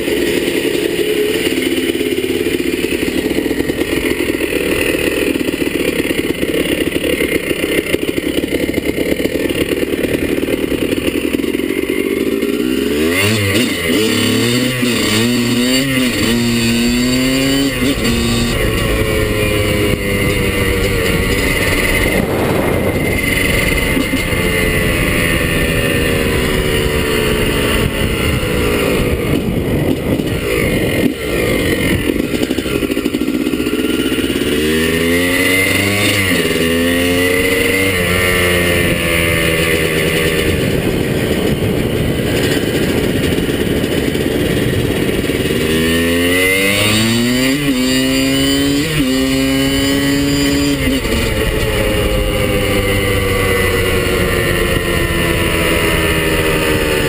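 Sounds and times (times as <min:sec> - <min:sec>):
two-stroke dirt bike engine: 0:00.0 - 0:57.0.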